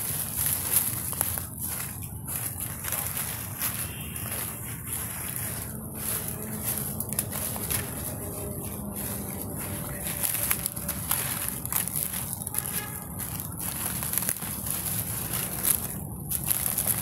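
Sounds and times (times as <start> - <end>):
dry leaves crackling and rustling: 0.0 - 17.0.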